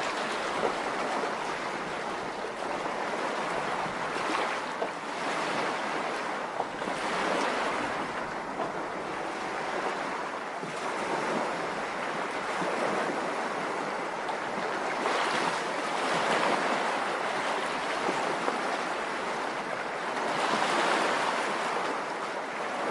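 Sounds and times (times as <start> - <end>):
rushing water: 0.0 - 22.9.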